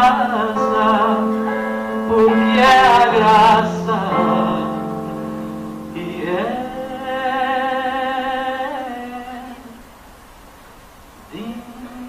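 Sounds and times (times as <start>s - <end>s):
man singing held notes: 0.0s - 9.7s.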